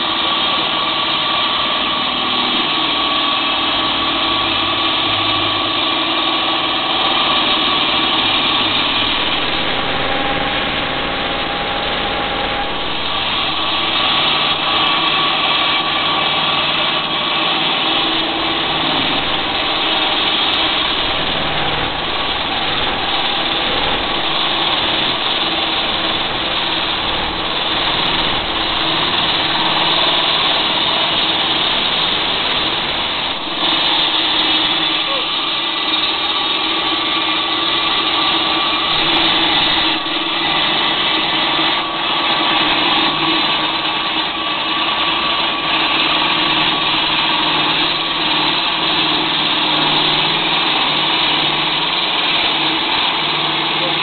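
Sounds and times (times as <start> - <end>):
concrete cutting machine running: 0.0 - 54.0.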